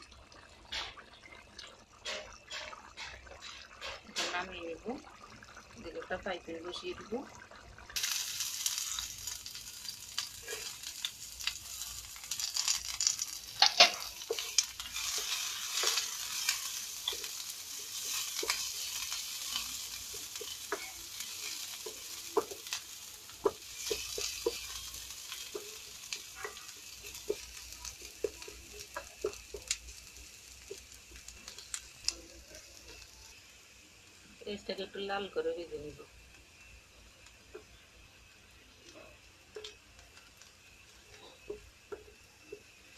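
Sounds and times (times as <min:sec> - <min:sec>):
onion sizzling in oil: 0:00.0 - 0:42.9.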